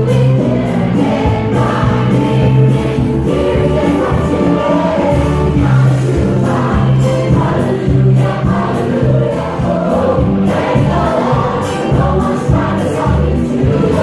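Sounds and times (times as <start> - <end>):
pop music with choir singing: 0.0 - 14.0.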